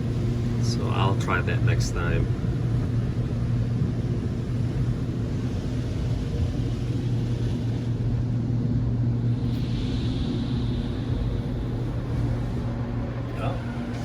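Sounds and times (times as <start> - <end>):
car wash machinery hum: 0.0 - 14.0.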